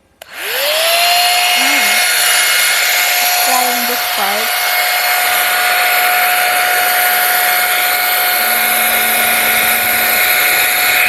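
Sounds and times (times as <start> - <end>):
hot-air brush fan whine: 0.0 - 11.0.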